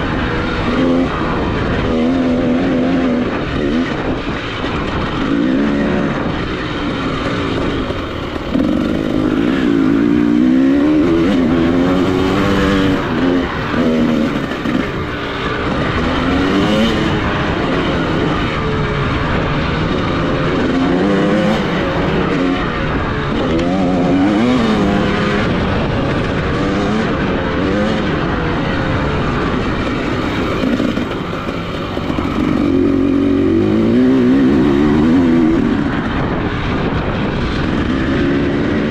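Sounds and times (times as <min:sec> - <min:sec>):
off-road motorcycle engine revving: 0:00.0 - 0:38.9.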